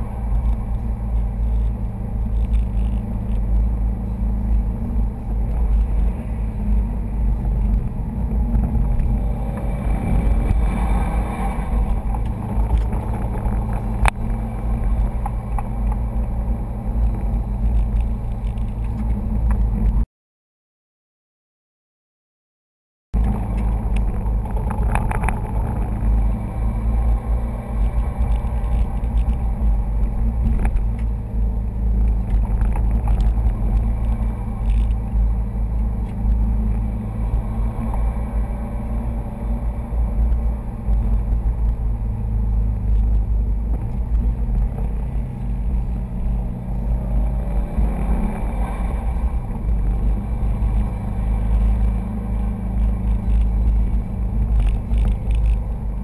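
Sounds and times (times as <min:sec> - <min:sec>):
car engine drone: 0:00.0 - 0:20.0, 0:23.2 - 0:56.0.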